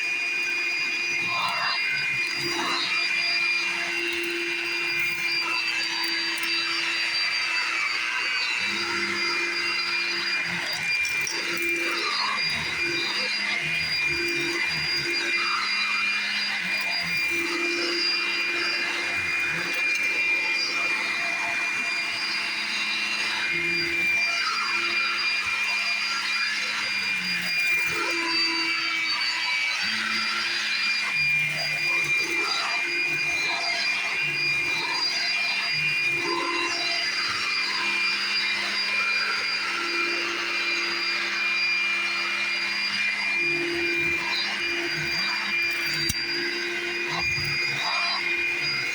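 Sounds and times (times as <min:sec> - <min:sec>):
vacuum cleaner whining: 0:00.0 - 0:48.9.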